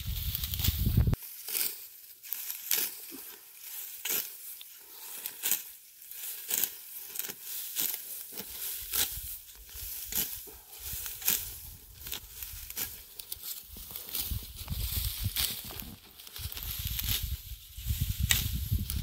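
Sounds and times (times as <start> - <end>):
sickle cutting wheat stalks: 0.0 - 19.0
straw rustling: 0.0 - 19.0.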